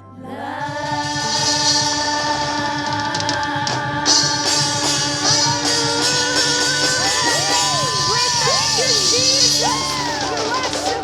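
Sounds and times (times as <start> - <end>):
worship band held chord: 0.0 - 11.0
drum hits: 0.6 - 11.0
cymbal crash: 1.1 - 11.0.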